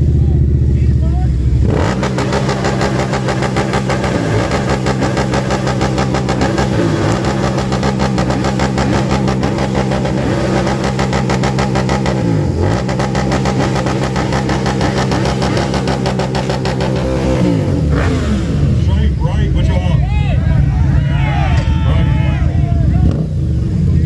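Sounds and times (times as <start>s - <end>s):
car engine running loudly: 0.0s - 24.0s.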